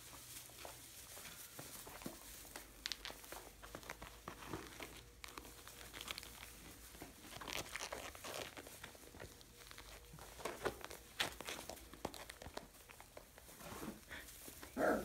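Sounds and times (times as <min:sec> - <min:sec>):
straw rustling and crackling: 0:00.0 - 0:15.0.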